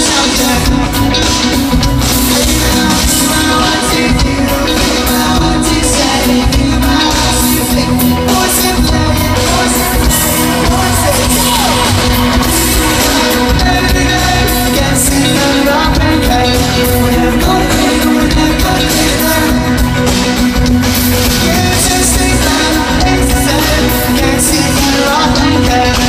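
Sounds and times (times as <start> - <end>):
live pop-rock band playing: 0.0 - 26.0
person singing lead vocals: 0.0 - 26.0.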